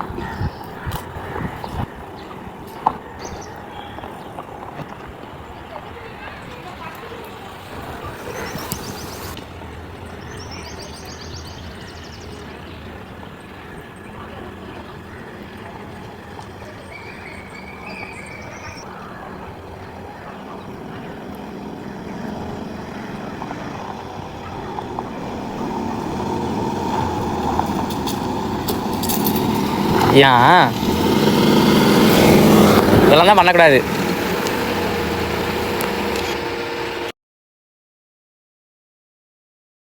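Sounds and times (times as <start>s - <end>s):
car engine and road noise: 0.0s - 37.1s.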